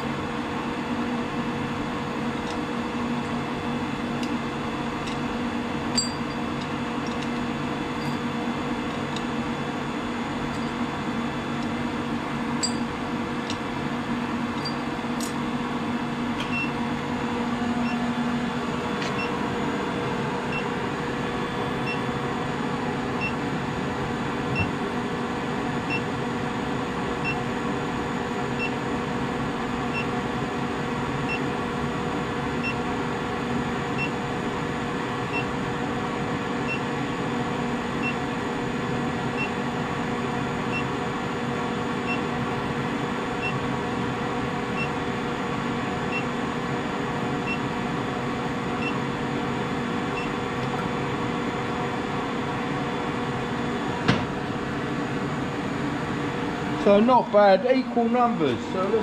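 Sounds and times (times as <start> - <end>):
induction heater hum: 0.0 - 59.0.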